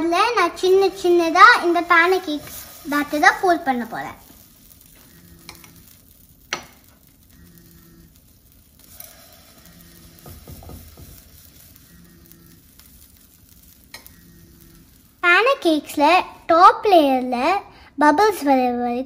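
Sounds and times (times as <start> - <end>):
pancake batter sizzling: 0.0 - 17.2.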